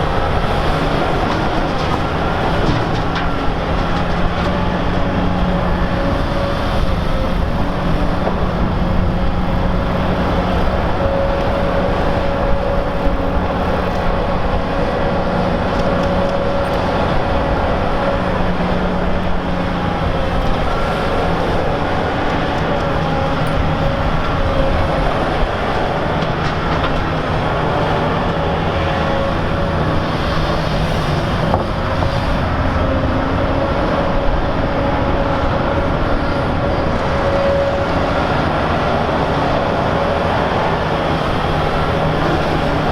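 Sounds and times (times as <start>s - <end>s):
diesel machine engine drone: 0.0s - 42.9s.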